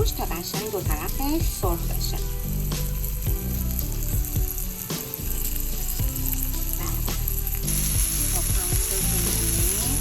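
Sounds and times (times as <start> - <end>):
meat sizzling in oil: 0.1 - 10.0.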